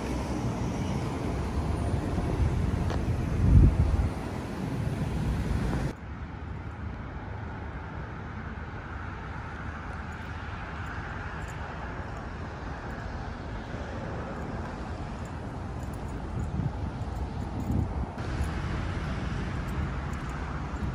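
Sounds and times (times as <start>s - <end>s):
road traffic hum: 0.0s - 20.9s.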